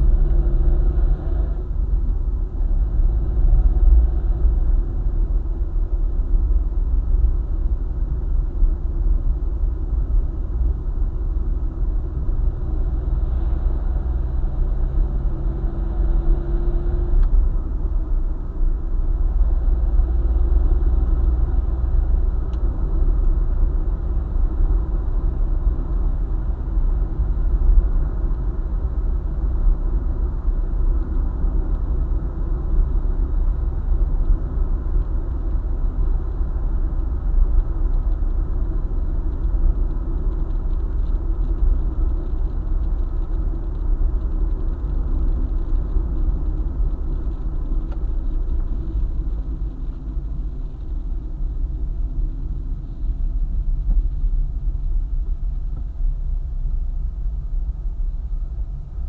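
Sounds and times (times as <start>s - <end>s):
car driving on highway: 0.0s - 59.0s.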